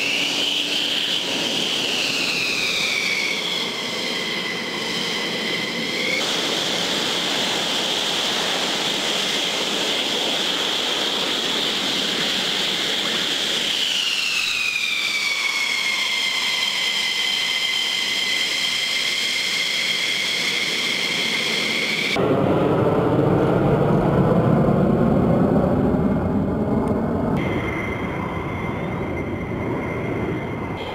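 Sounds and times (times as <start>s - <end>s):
jet engines whining: 0.0s - 30.9s.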